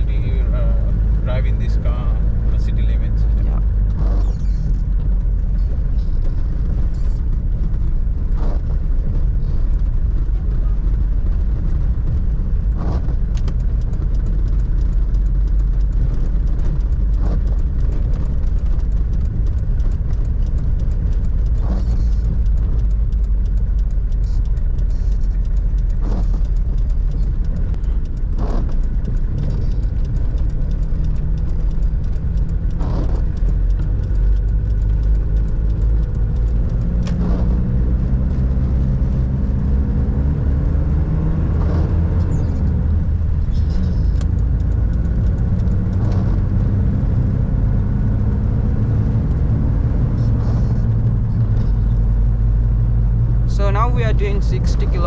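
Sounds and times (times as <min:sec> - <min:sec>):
diesel engine and road rumble: 0:00.0 - 0:55.0.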